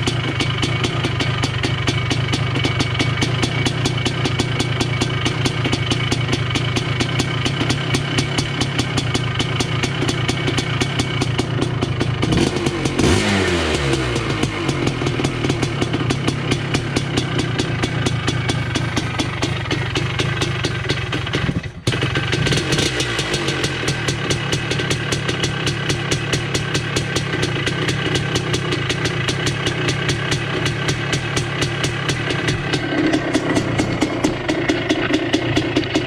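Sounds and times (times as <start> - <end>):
two-stroke motorcycle engine running: 0.0 - 36.0.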